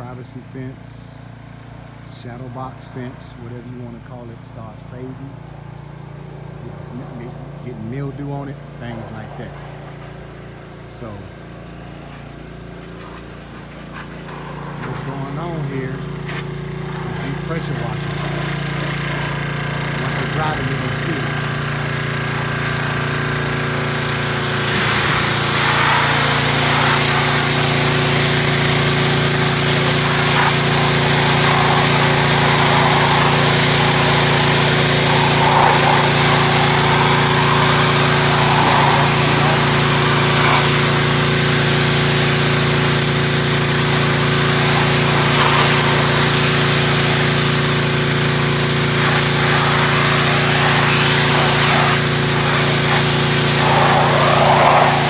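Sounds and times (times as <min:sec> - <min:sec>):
pressure washer engine running: 0:00.0 - 0:55.0
water jet spraying on wood: 0:08.6 - 0:55.0.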